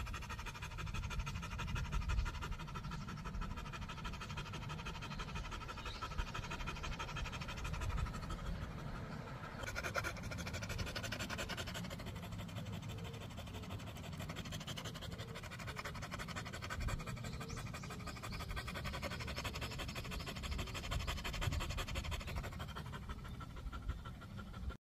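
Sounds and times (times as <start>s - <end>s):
dog panting: 0.0s - 24.8s.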